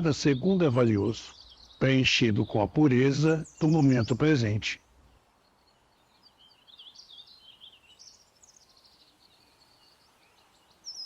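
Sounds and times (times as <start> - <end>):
low background hiss: 0.0 - 11.0
songbird chirping: 0.0 - 11.0.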